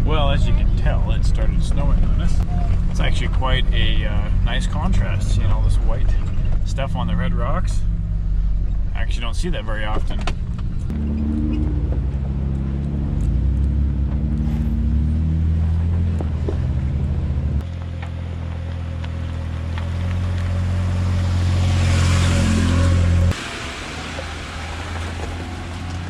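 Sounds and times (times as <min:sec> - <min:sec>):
car engine running steadily: 0:00.0 - 0:26.0.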